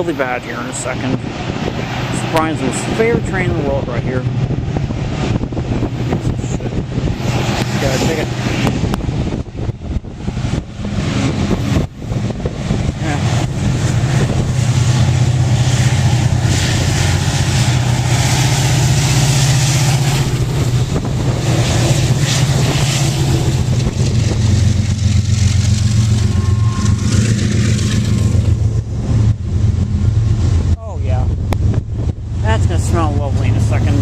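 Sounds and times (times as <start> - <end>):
locomotive engine drone: 0.0 - 34.0
passing train rush: 0.0 - 34.0.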